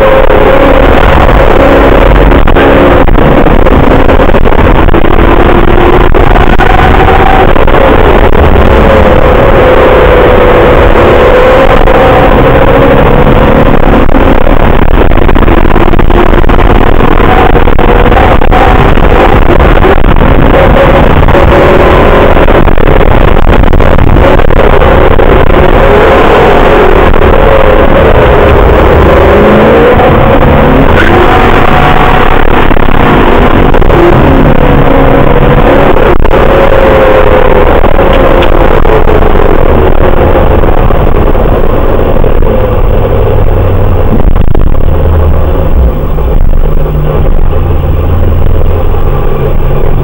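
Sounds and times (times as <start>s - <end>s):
car engine accelerating: 0.0s - 50.0s
road and wind noise: 0.0s - 50.0s.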